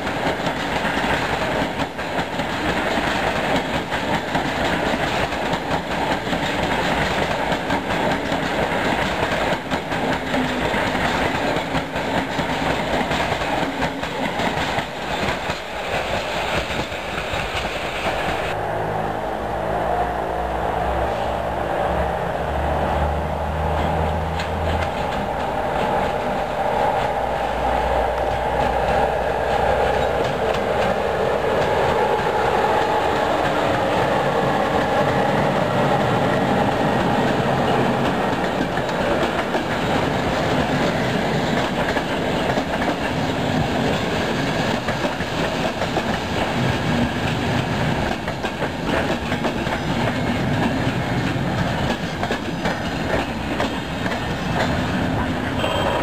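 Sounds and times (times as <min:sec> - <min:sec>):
train wheels clattering over rail joints: 0:00.0 - 0:18.6, 0:23.6 - 0:55.6.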